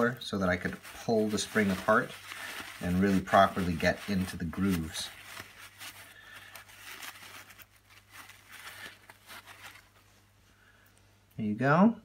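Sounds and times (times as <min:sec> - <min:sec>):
paper towel crinkling and rubbing: 0:00.0 - 0:10.4.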